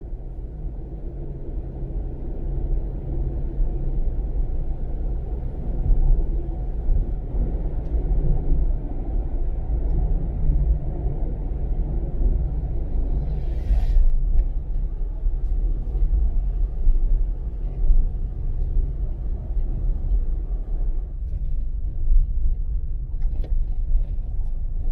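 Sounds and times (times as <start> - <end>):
vehicle engine rumbling: 0.0 - 24.9.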